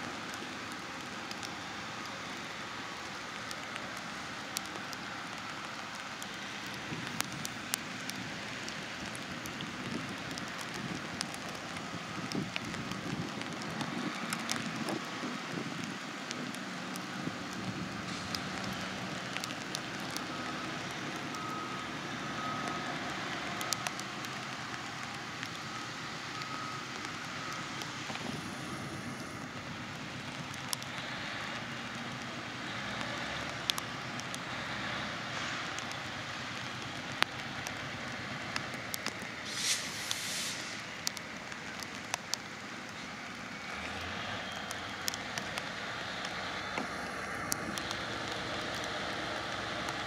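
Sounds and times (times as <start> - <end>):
crackles and clicks: 0.0 - 50.0
diesel engine rumbling: 0.0 - 50.0
steady hiss: 0.0 - 50.0.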